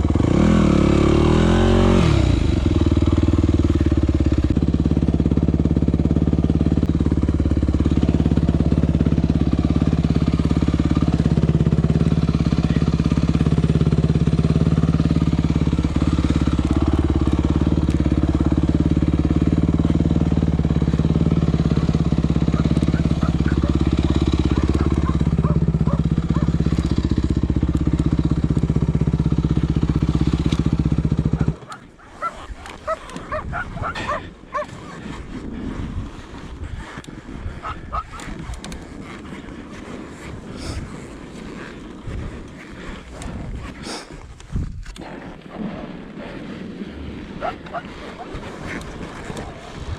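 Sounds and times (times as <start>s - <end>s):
motorcycle engine running: 0.0s - 45.0s, 46.9s - 49.9s.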